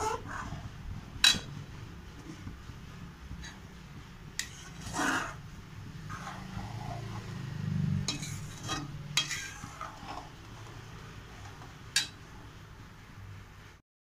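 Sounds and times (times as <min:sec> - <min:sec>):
metal spoon scraping a pan: 0:00.0 - 0:12.5
steady low hum: 0:00.0 - 0:13.8.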